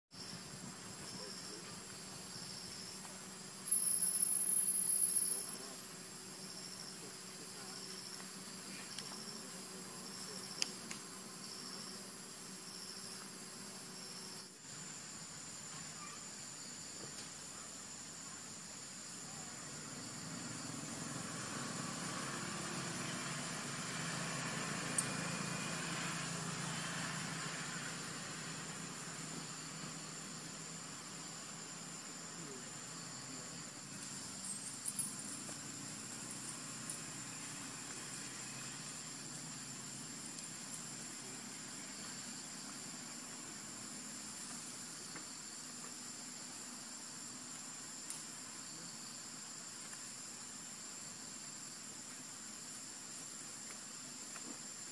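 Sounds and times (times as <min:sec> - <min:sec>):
insects chirping: 0:00.1 - 0:54.9.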